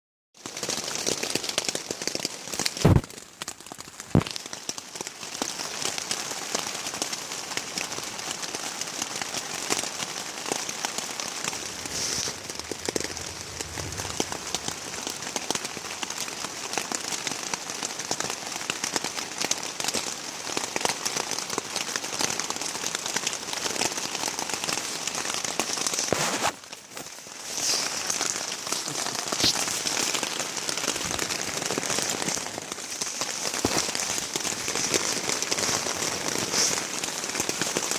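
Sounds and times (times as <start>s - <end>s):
steady rain falling: 0.4s - 37.9s.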